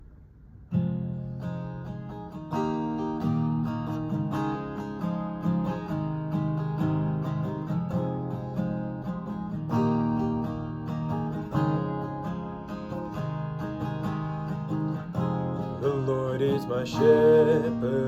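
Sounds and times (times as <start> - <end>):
acoustic guitar strumming chords: 0.7 - 18.0.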